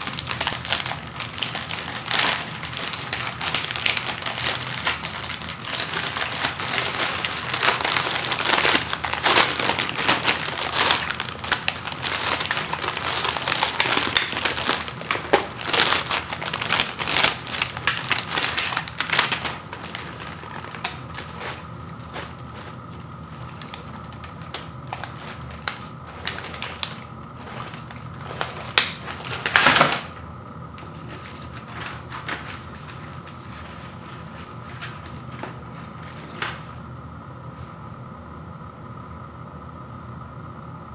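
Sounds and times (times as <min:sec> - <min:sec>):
plastic wrapper crinkling: 0:00.0 - 0:30.2, 0:30.8 - 0:36.7.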